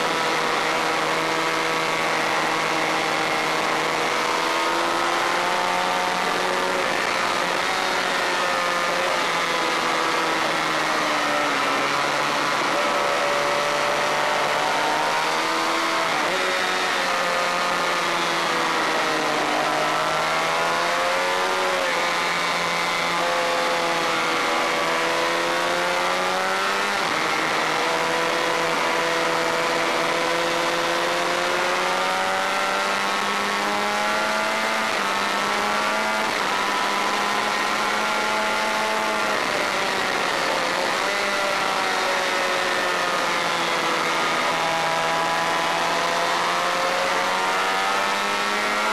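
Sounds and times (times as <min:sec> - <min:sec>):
constant rushing noise: 0:00.0 - 0:48.9
motorcycle engine revving high: 0:00.0 - 0:48.9.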